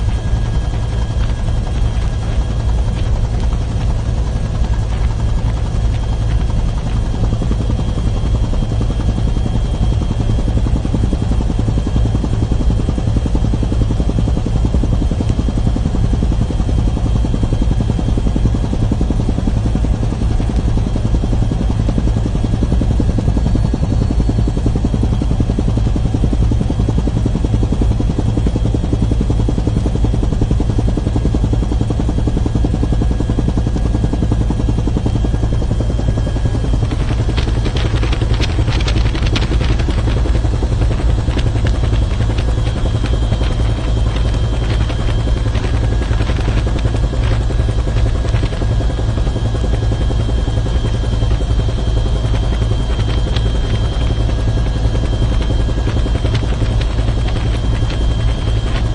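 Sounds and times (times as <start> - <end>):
helicopter cabin drone: 0.0 - 58.9.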